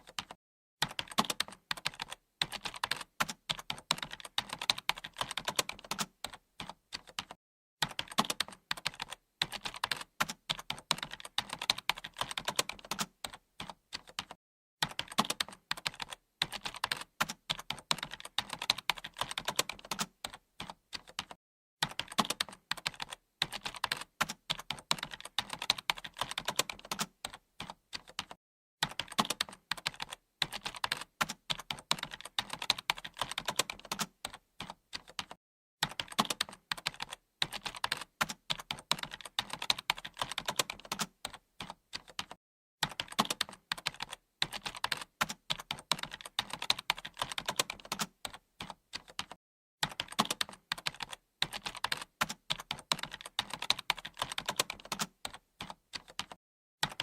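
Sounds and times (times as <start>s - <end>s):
keyboard typing clicks: 0.0s - 57.0s.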